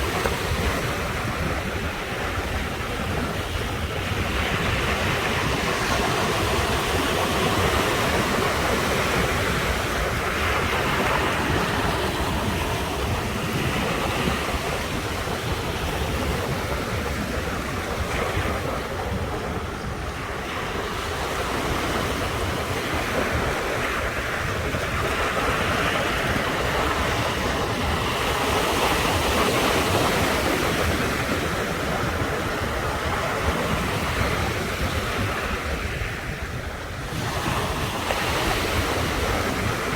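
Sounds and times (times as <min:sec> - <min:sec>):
ocean surf washing ashore: 0:00.0 - 0:39.9
wind rumbling on microphone: 0:00.0 - 0:39.9.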